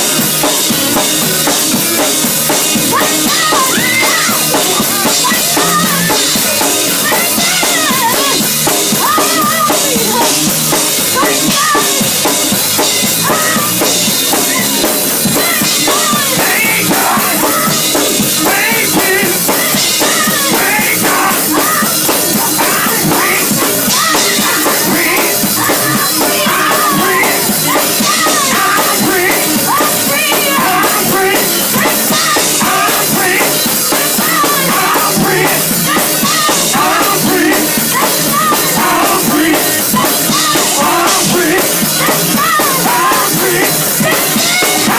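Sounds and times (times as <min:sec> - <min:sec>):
drum kit playing: 0:00.0 - 0:44.9
singers singing gospel: 0:00.0 - 0:44.9.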